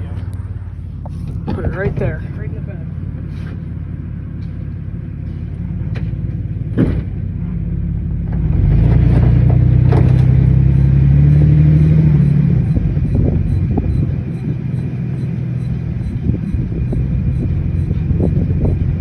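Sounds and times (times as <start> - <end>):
truck engine rumble: 0.0 - 19.0.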